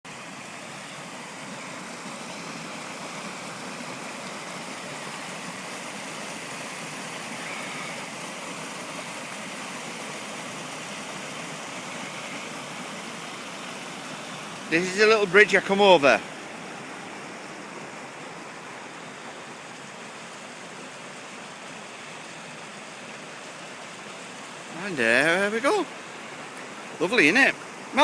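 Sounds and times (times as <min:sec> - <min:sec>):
stream flowing: 0:00.1 - 0:28.0.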